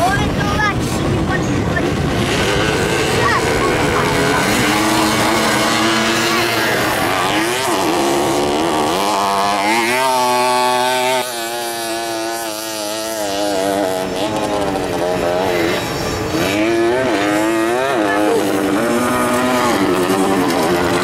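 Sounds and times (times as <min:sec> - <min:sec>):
mopeds revving past: 0:00.0 - 0:21.0.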